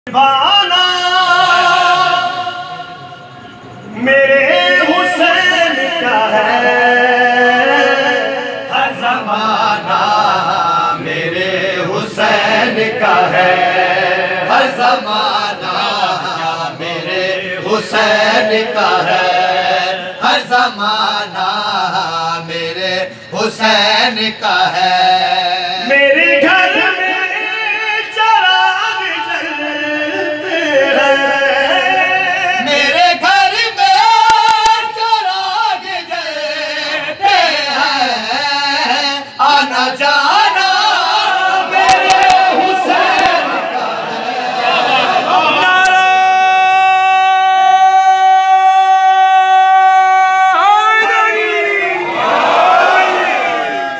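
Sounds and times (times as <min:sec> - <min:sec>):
men chanting into a microphone: 0:00.0 - 0:53.9.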